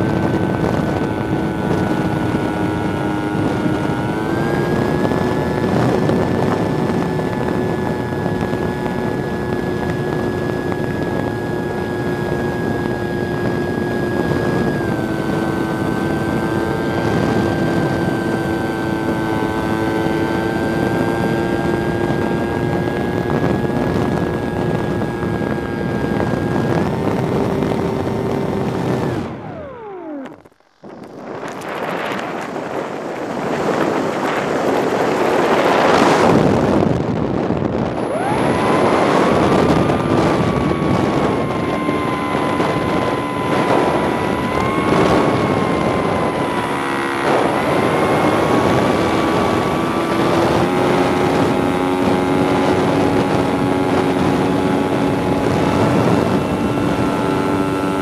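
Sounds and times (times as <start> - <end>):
model plane motor whine: 0.0 - 58.0
wind on microphone: 0.0 - 58.0.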